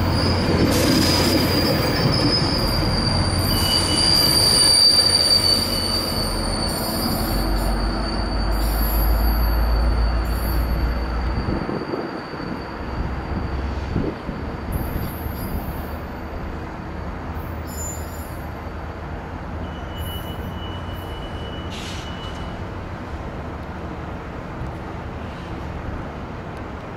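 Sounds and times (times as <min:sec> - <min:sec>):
high wheel squeal: 0:00.0 - 0:18.8, 0:19.6 - 0:22.7
train rail rumble: 0:00.0 - 0:26.9.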